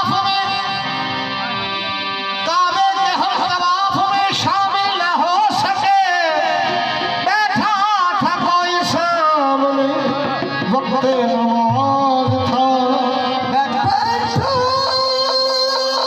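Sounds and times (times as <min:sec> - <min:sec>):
harmonium chords: 0:00.0 - 0:16.0
man singing ornamented line: 0:00.0 - 0:16.0.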